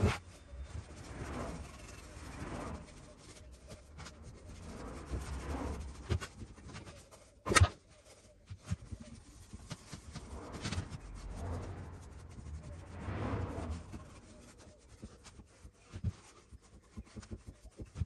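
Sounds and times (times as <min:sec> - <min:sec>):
rubbing and scraping on wood: 0:00.0 - 0:18.0.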